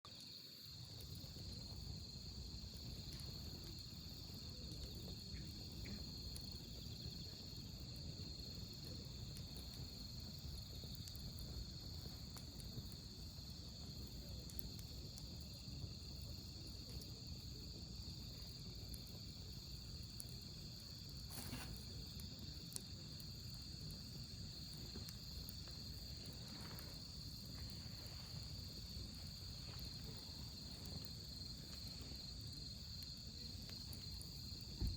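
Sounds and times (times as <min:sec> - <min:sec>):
campfire rushing: 0:00.1 - 0:34.9
crickets trilling: 0:00.1 - 0:34.9
fire popping: 0:00.1 - 0:34.9.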